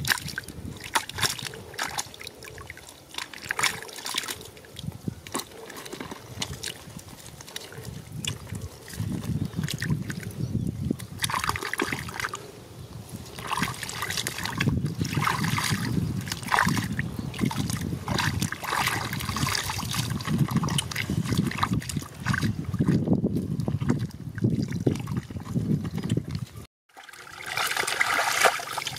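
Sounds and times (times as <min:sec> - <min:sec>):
muddy water sloshing: 0:00.0 - 0:28.9.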